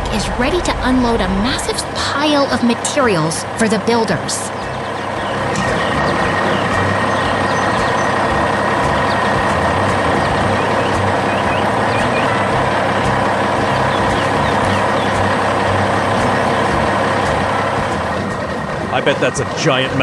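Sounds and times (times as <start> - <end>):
heavy truck engine running: 0.0 - 20.0
steady whine: 0.0 - 20.0.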